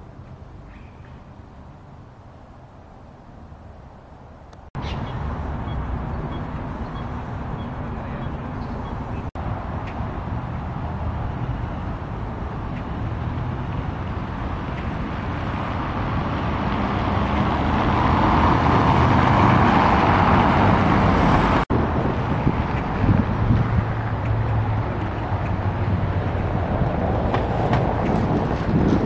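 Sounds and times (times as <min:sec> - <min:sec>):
traffic noise: 0:00.0 - 0:29.0
vehicle engine: 0:04.5 - 0:29.0.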